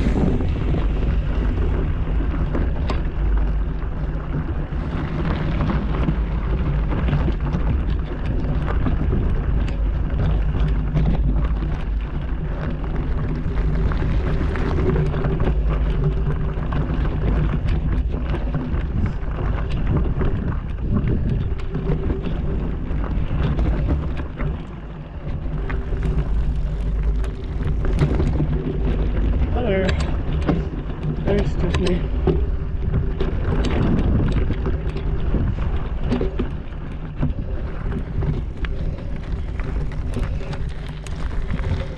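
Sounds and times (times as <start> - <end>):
bike tyre rumble: 0.0 - 41.9
wind buffeting microphone: 0.0 - 41.9.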